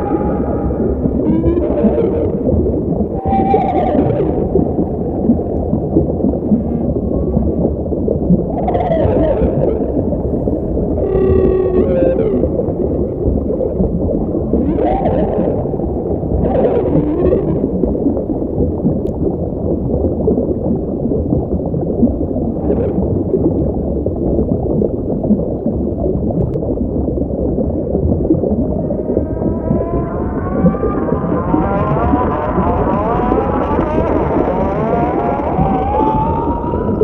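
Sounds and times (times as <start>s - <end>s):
whale-like moaning calls: 0.0s - 26.6s, 28.4s - 37.0s
deep rumble: 0.0s - 37.0s.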